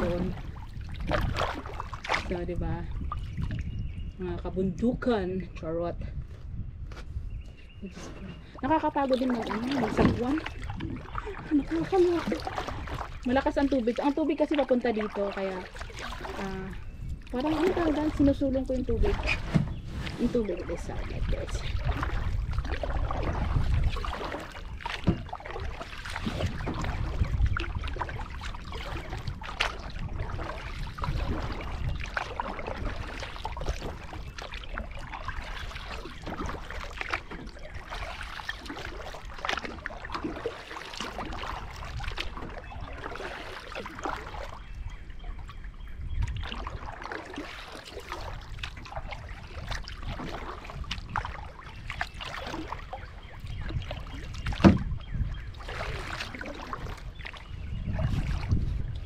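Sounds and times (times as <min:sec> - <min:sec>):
kayak paddle strokes in water: 0:00.0 - 0:03.6, 0:07.9 - 0:59.0
water splashing and dripping: 0:00.0 - 0:04.5, 0:08.4 - 0:59.0
wind buffeting microphone: 0:00.0 - 0:59.0.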